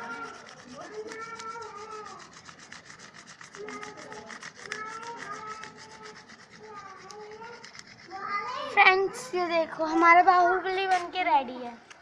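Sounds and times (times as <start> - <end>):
pencil scratching on paper: 0.0 - 10.5.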